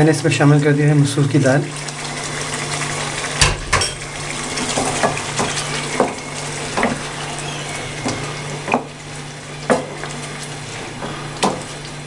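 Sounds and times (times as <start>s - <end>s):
food sizzling in a wok: 1.7s - 12.0s.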